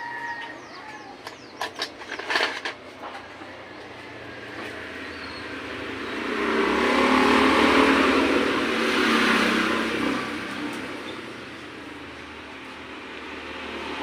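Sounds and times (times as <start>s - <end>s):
motor vehicle engine: 0.0s - 14.0s.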